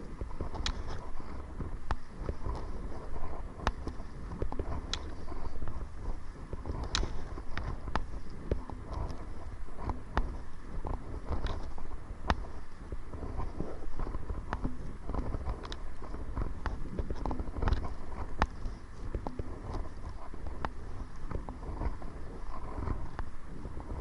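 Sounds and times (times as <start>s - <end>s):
wind rumble on microphone: 0.0s - 24.0s
water and paddle knocking hull: 0.2s - 24.0s.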